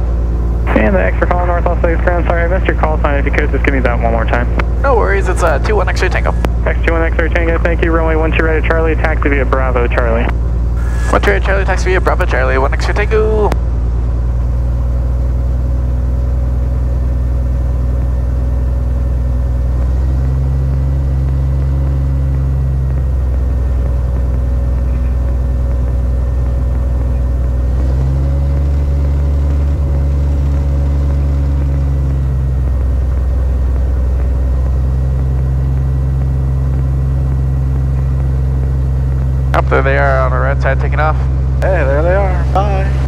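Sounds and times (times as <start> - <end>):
propeller plane engine droning: 0.0 - 43.0.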